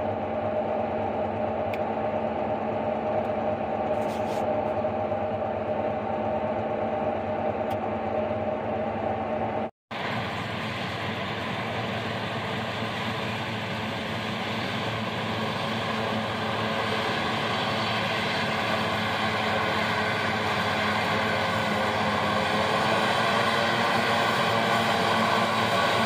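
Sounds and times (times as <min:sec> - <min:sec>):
forage harvester drone: 0:00.0 - 0:26.0.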